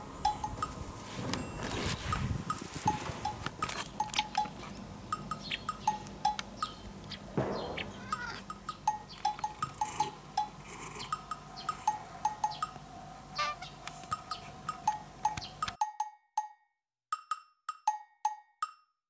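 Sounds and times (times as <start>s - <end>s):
playful plinking bell music: 0.2s - 3.4s, 4.0s - 6.8s, 8.1s - 12.8s, 14.0s - 19.0s.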